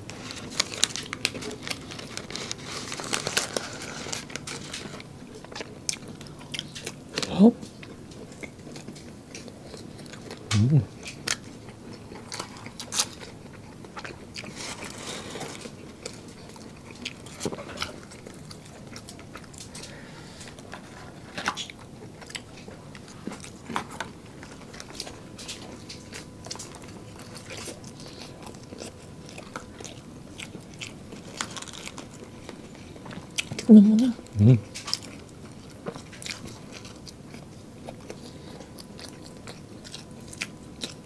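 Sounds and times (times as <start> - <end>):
people chewing crunchy food: 0.0 - 41.0.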